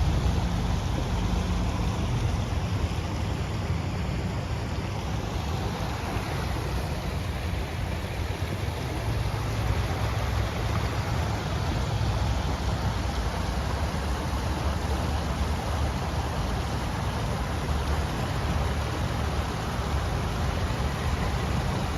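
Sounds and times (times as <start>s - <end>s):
river water rushing: 0.0s - 21.9s.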